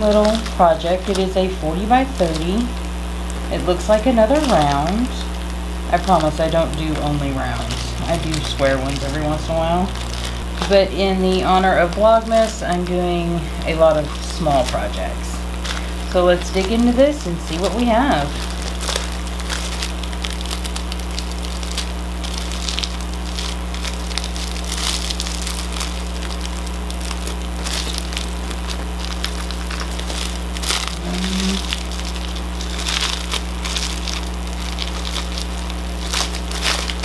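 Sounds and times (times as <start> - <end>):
plastic wrapping crinkling: 0.0 - 37.0
steady low hum: 0.0 - 37.0.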